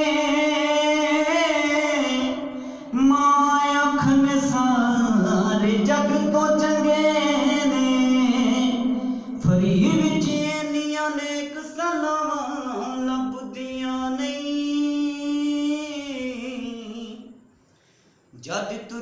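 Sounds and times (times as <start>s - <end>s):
man singing into a microphone: 0.0s - 17.3s.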